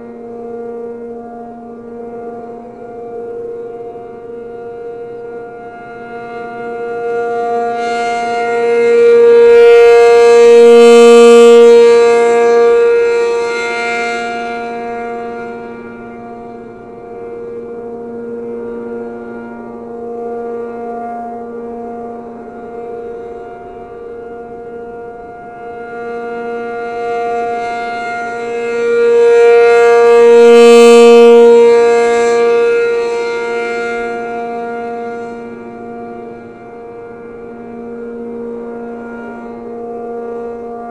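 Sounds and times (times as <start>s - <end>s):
two-tone warning siren: 0.0s - 40.9s.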